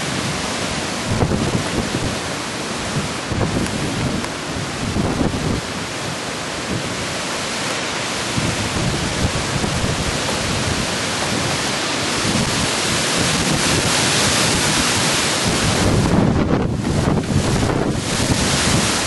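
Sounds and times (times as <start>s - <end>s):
wind buffeting microphone: 0.0s - 7.4s, 8.1s - 19.0s
leaves and branches thrashing: 0.0s - 19.0s
strong wind through trees: 0.0s - 19.0s.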